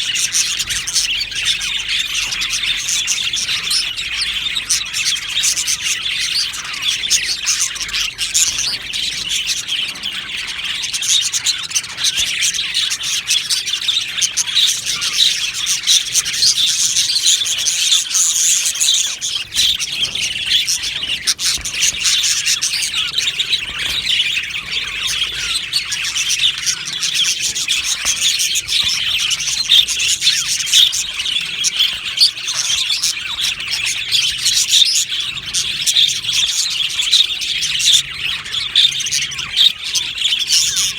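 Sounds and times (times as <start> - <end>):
budgerigars chirping and chattering: 0.0 - 40.9.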